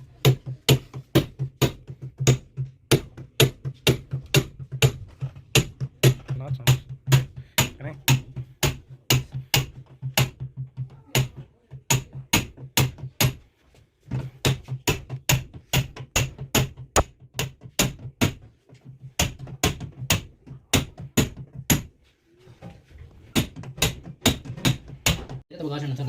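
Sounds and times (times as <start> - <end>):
hammer strikes: 0.0 - 22.0, 23.2 - 25.4.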